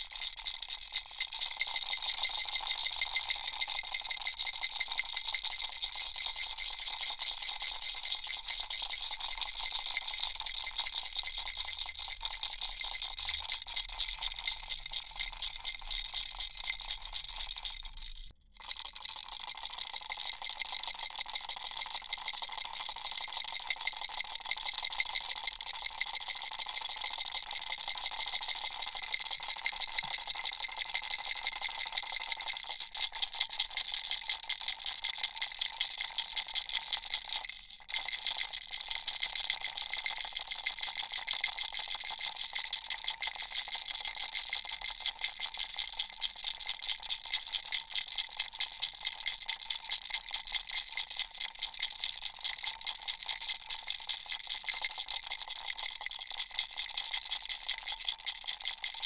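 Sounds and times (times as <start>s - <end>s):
baby rattle shaken: 0.0s - 59.0s.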